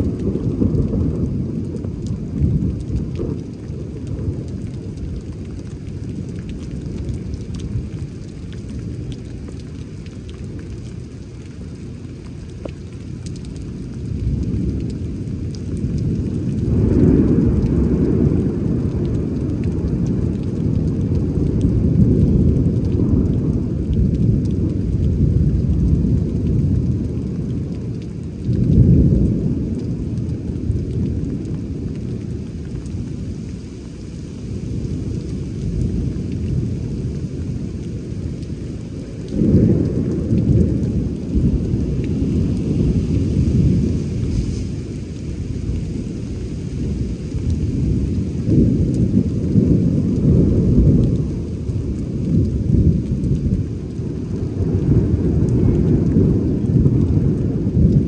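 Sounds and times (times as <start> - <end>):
rain hissing: 0.0 - 58.0
thunder rumbling: 0.0 - 58.0.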